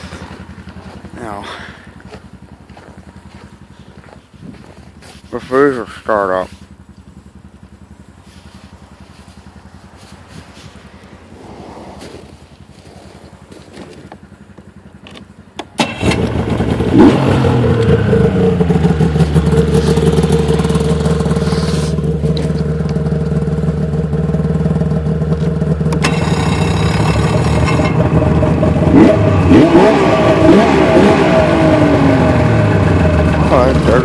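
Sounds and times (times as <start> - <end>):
small engine starting and idling: 0.0 - 34.0.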